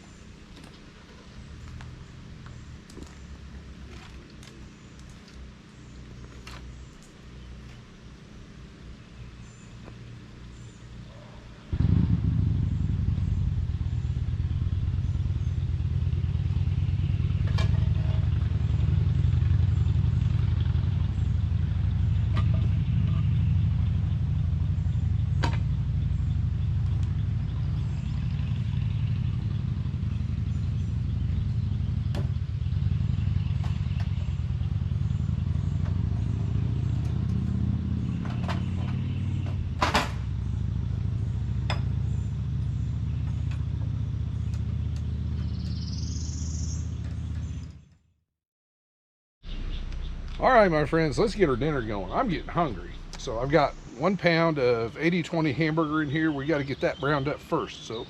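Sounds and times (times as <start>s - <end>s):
motor engine rumbling: 0.0s - 48.1s, 49.4s - 58.0s.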